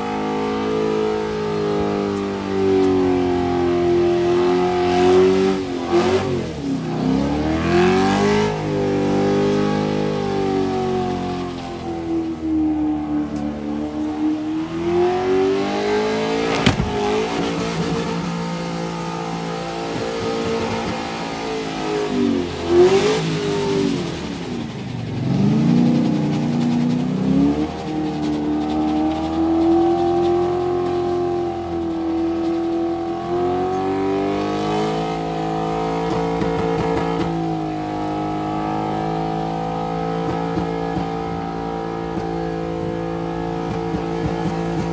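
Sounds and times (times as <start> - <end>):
car engine revving high: 0.0 - 44.9.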